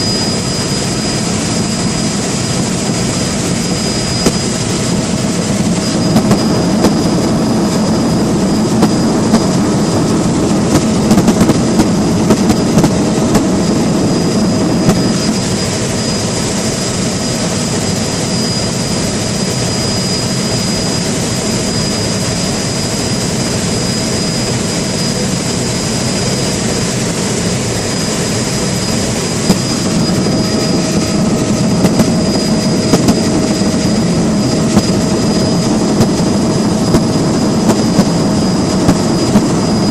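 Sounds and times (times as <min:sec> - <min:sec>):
vehicle rumbling drone: 0:00.0 - 0:17.6, 0:23.8 - 0:39.9
faint constant whine: 0:00.0 - 0:39.9.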